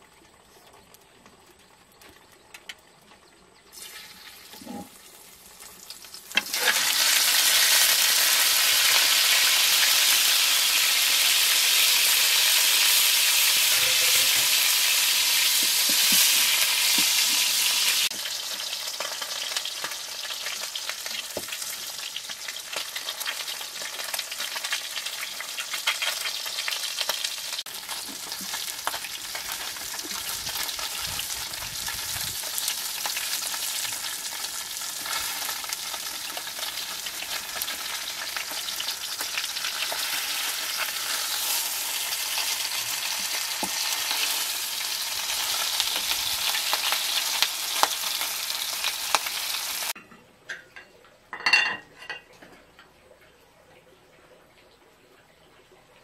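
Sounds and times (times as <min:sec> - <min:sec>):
food sizzling in hot oil: 0:03.7 - 0:50.0.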